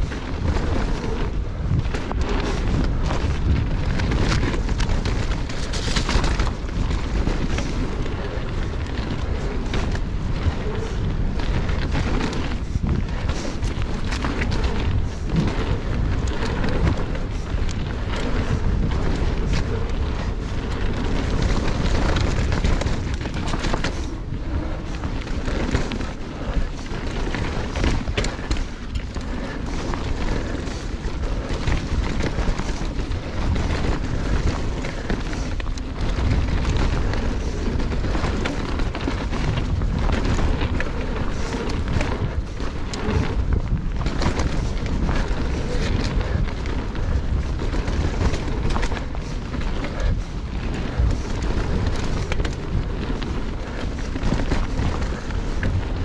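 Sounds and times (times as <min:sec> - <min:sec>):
bike knocking and rattling: 0:00.0 - 0:56.0
tyres rolling on dirt and stones: 0:00.0 - 0:56.0
wind buffeting microphone: 0:00.0 - 0:56.0.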